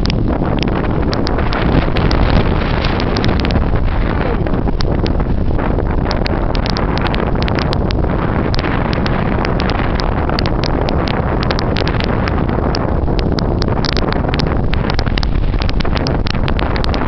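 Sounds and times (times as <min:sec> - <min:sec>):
sharp crackles: 0:00.0 - 0:17.0
wind buffeting microphone: 0:00.0 - 0:17.0.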